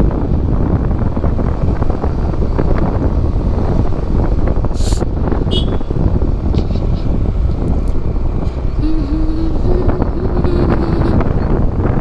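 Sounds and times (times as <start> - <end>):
scooter engine rumble: 0.0 - 12.0
wind rushing over microphone: 0.0 - 12.0.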